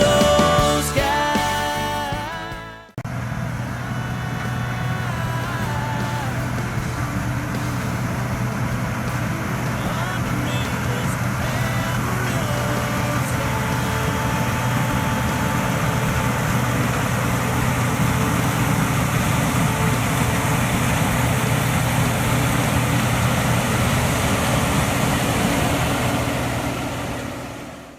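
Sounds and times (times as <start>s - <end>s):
heavy machinery engine running: 0.0s - 27.9s.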